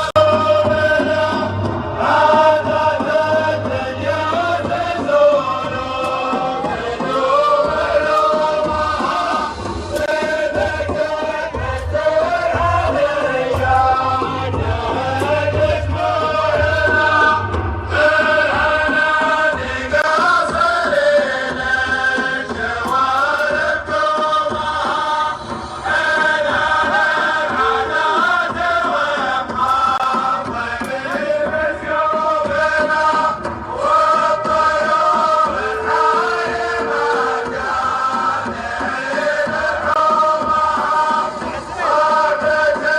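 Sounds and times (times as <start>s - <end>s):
low drum beat: 0.0s - 42.9s
men chanting a sung melody: 0.0s - 42.9s.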